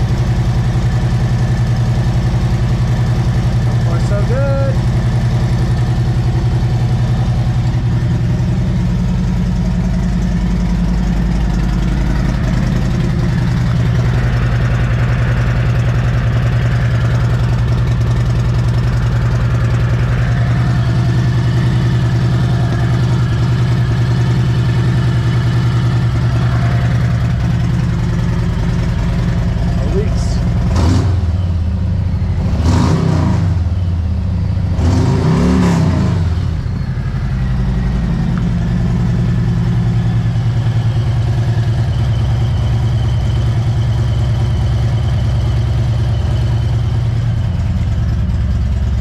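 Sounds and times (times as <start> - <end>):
motorcycle engine idling: 0.0 - 32.6, 33.5 - 34.8, 36.2 - 49.0.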